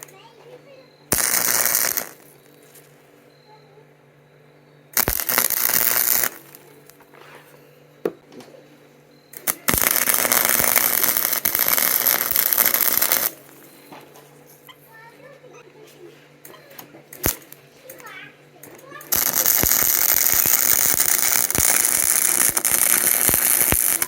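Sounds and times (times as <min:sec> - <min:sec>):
arc welding crackling and sizzling: 0:00.0 - 0:03.1, 0:04.9 - 0:07.6, 0:09.3 - 0:15.3, 0:16.3 - 0:24.0.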